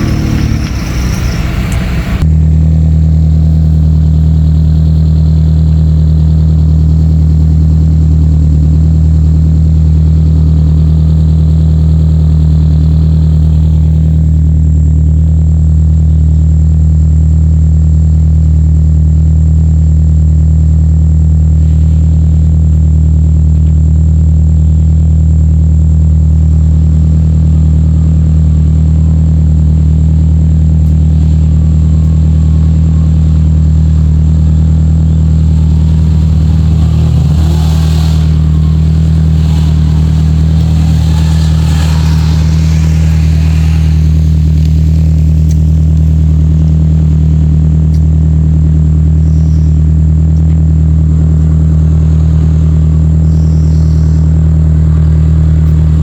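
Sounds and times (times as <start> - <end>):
engine running off-road: 0.0 - 56.0.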